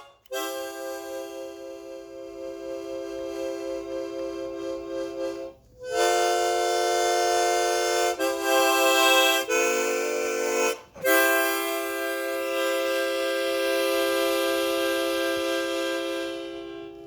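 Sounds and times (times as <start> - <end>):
harmonica chords: 0.0 - 17.0.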